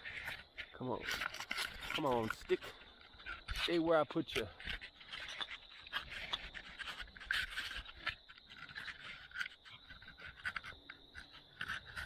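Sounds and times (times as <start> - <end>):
scratching in dry leaves: 0.0 - 12.0.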